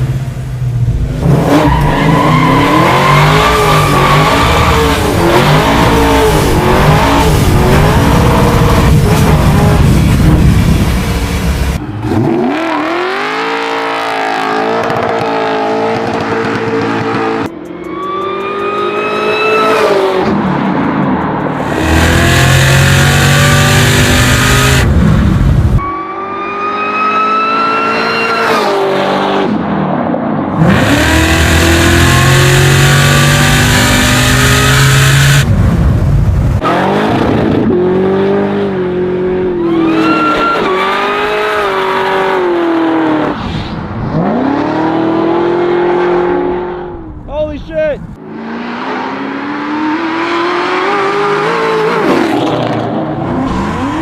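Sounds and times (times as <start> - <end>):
car engines revving: 0.0 - 47.3, 48.0 - 54.0.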